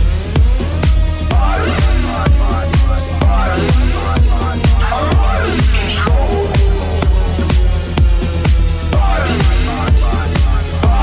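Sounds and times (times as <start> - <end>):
melodic techno music: 0.0 - 11.0.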